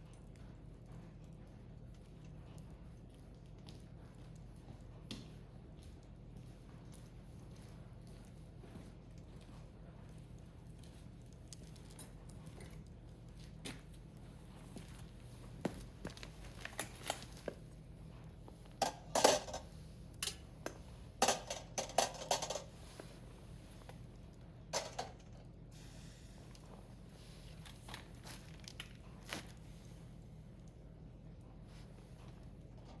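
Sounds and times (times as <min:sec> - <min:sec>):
firewood crackling and popping: 0:00.0 - 0:18.8, 0:22.7 - 0:33.0.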